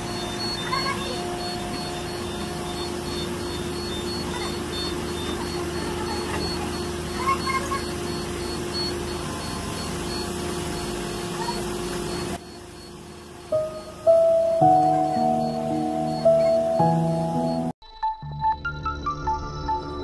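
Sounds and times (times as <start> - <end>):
excavator diesel engine running: 0.0 - 17.7.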